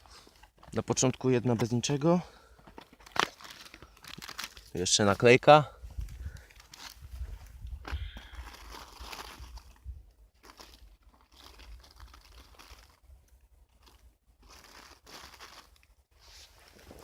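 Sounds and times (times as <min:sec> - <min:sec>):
packaging crinkling and rustling: 0:00.1 - 0:13.0, 0:13.7 - 0:17.0.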